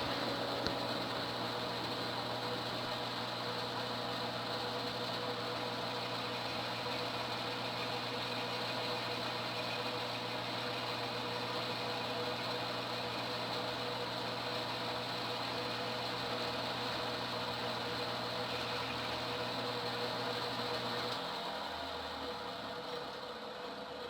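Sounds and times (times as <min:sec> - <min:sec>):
wood lathe humming: 0:00.0 - 0:23.9.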